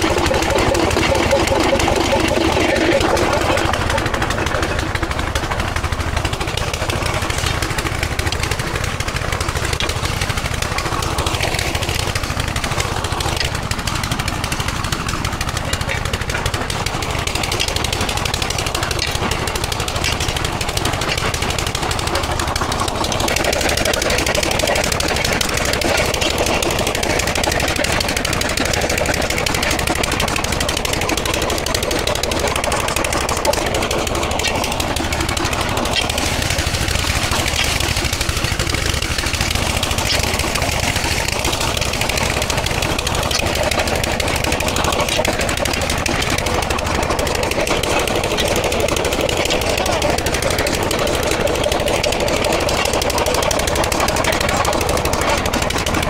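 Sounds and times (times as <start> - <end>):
stone-crushing machinery rattling: 0.0 - 56.0.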